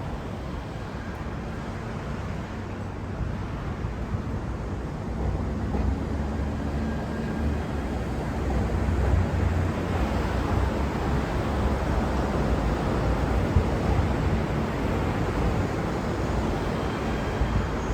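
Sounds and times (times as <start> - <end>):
train rumbling past slowly: 0.0 - 17.9.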